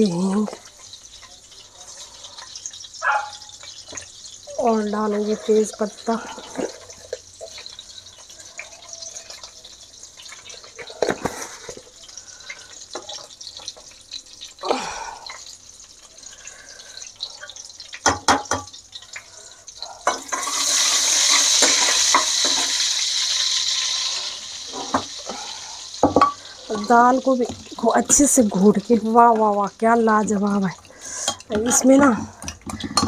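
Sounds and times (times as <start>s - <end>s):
hot oil sizzling faintly: 0.0s - 33.0s.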